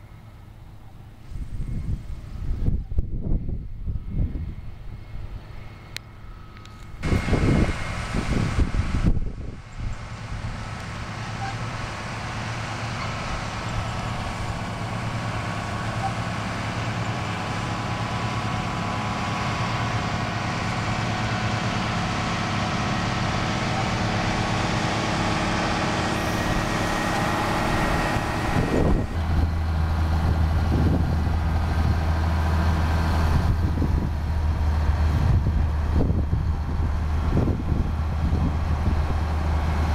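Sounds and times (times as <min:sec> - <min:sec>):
tractor diesel engine drone: 0:00.0 - 0:39.9
combine harvester threshing: 0:06.6 - 0:39.9.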